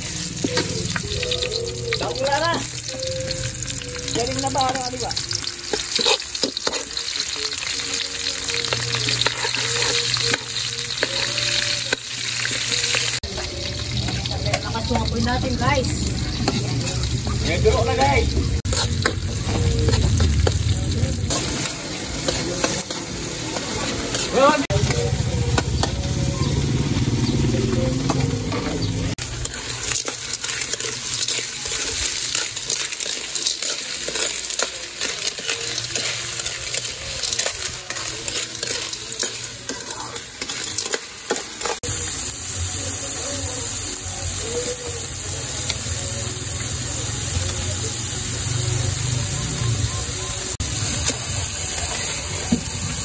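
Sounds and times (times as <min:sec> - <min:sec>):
food sizzling: 0:00.0 - 0:53.0.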